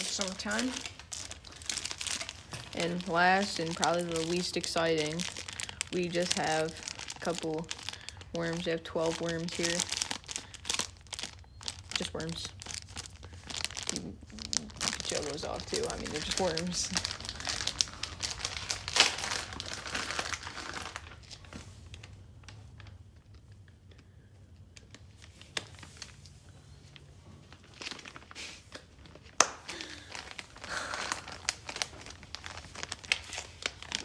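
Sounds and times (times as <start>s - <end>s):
plastic packages crinkling: 0.0s - 34.0s.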